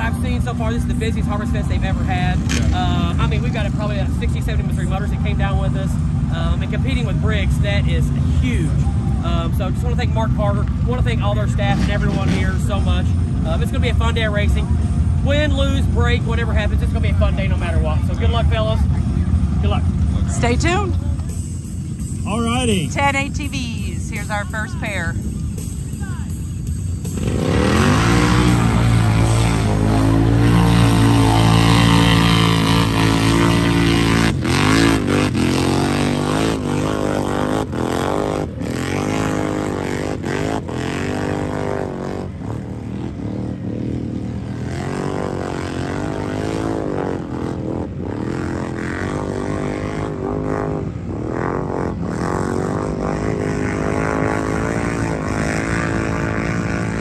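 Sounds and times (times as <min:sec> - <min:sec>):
atv engines revving: 0:00.0 - 0:57.0.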